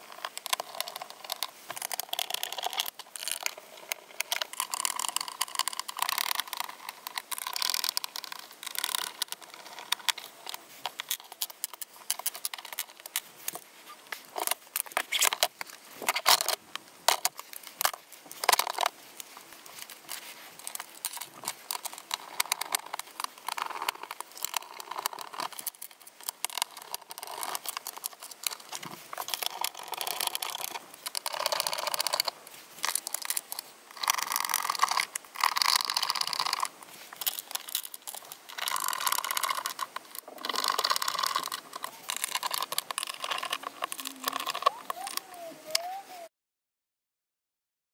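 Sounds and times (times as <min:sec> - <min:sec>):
plastic parts clicking and rattling: 0:00.0 - 0:46.0.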